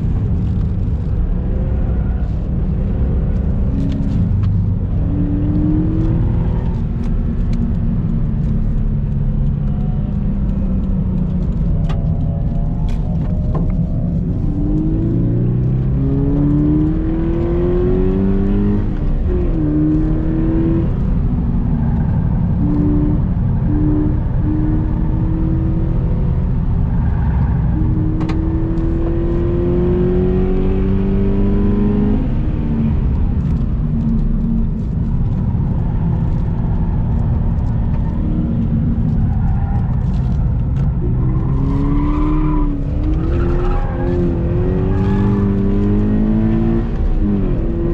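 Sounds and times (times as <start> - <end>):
car engine accelerating: 0.0 - 47.9
road and tyre noise: 0.0 - 47.9.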